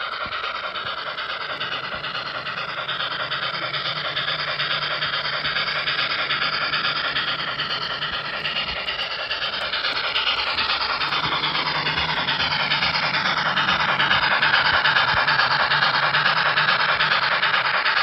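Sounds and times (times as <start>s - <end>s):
model train clattering: 0.0s - 18.0s.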